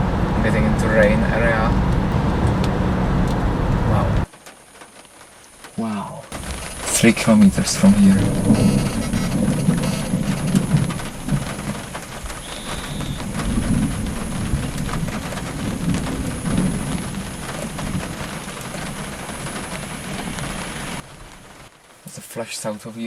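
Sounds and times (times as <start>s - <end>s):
thunder rumbling: 0.0s - 4.4s, 5.7s - 21.7s.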